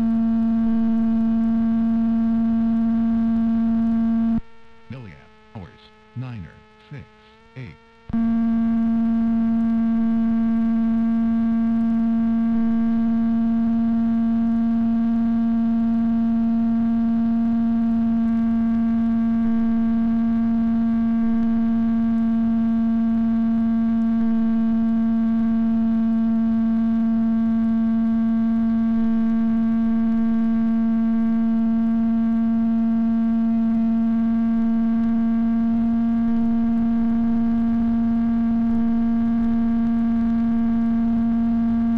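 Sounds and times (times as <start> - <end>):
electronic interference buzz: 0.0 - 41.9.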